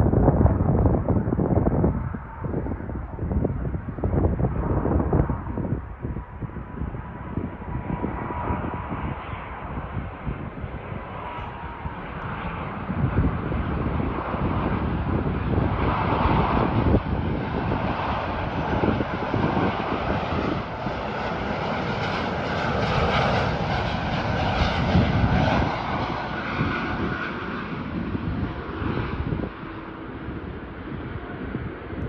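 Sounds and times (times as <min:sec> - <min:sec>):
jet airliner engines landing: 0:00.0 - 0:32.0.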